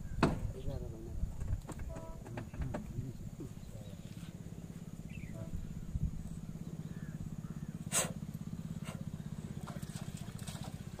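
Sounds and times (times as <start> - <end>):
engine idling: 1.1 - 11.0.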